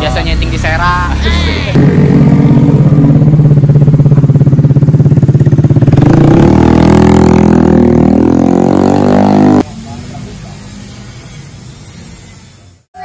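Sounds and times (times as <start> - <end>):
scooter engine idling and revving: 0.0 - 12.0.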